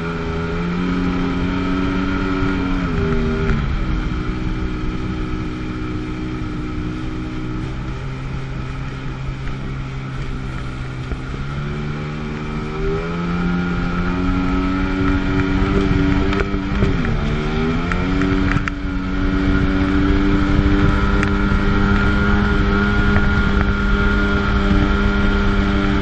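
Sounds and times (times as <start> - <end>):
watercraft engine revving: 0.0 - 26.0.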